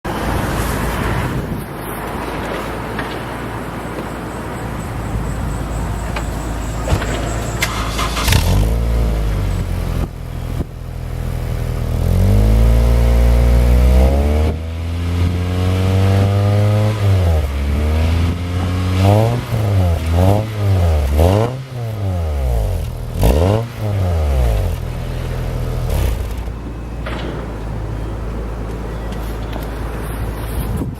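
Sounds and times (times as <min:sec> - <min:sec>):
car engine revving: 0:01.2 - 0:29.8.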